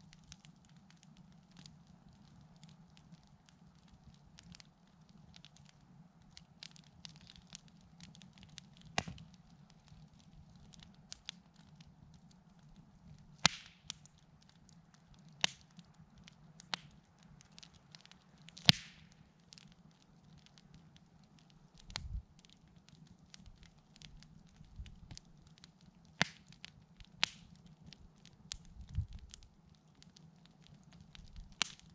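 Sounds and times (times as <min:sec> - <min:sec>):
wood campfire crackling: 0:00.0 - 0:31.9.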